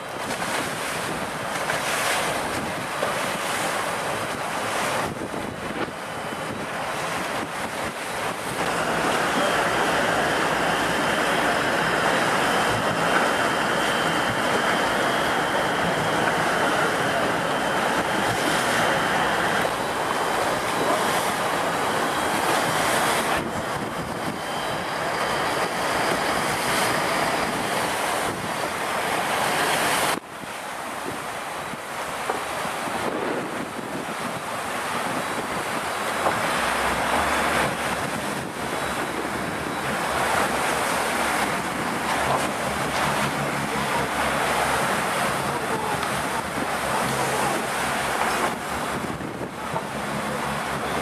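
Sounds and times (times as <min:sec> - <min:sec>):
wind buffeting microphone: 0:00.0 - 0:28.9, 0:29.9 - 0:51.0
open sea wash: 0:00.0 - 0:51.0.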